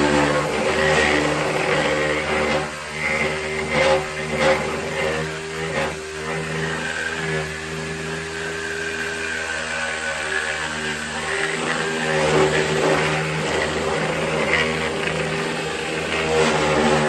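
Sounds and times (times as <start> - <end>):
motor humming with high whine: 0.0 - 17.0.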